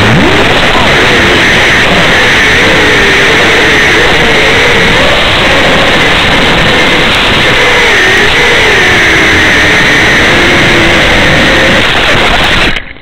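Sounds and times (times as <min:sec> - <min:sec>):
quadcopter motors whining: 0:00.0 - 0:12.8
static hiss: 0:00.0 - 0:13.0.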